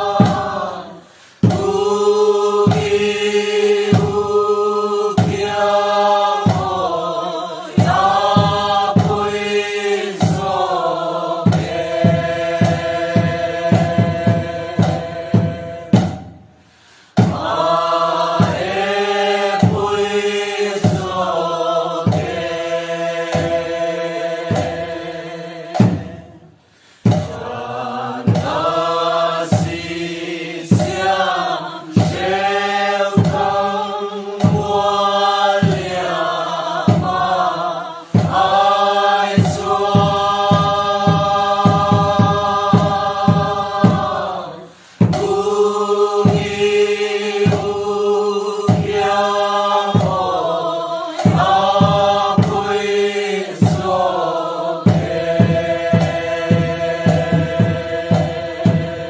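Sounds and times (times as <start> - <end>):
steady beat of strikes: 0.0 - 59.0
voices singing: 0.0 - 59.0.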